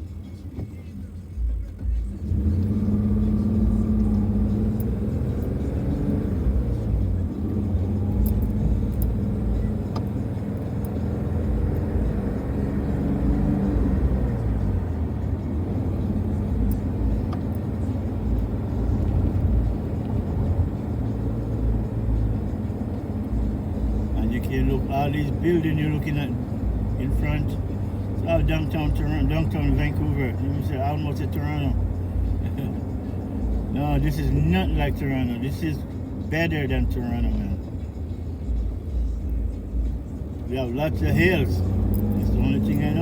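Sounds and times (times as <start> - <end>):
car engine: 0.0 - 43.0
road rumble: 0.0 - 43.0.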